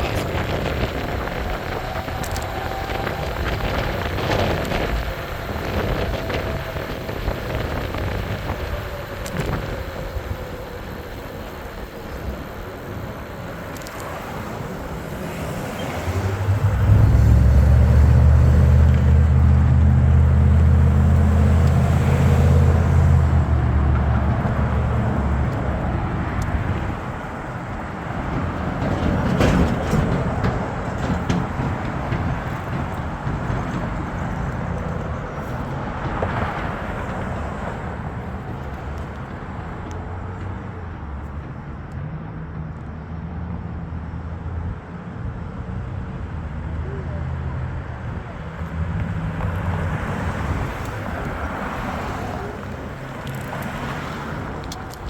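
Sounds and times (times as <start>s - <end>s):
outdoor road noise: 0.0s - 55.0s
vehicle engine humming close by: 0.0s - 55.0s.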